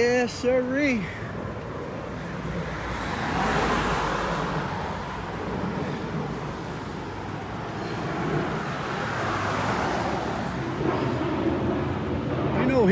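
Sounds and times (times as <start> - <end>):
wind and road noise: 0.0 - 12.9
motor vehicle passing: 1.0 - 12.9.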